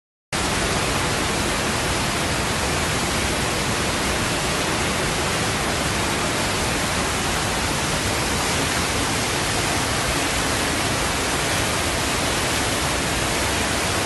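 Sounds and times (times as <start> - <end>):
floodwater rushing: 0.4 - 14.0.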